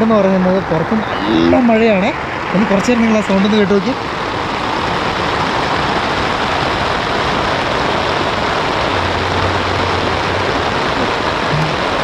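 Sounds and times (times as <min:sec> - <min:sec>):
heavy rain on a tent: 0:00.0 - 0:12.0.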